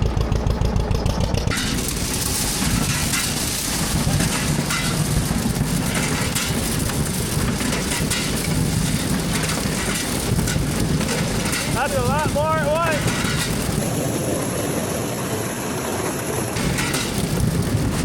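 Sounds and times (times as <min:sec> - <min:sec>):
corn picker machinery noise: 0:00.0 - 0:18.0
tractor engine drone: 0:00.0 - 0:18.0.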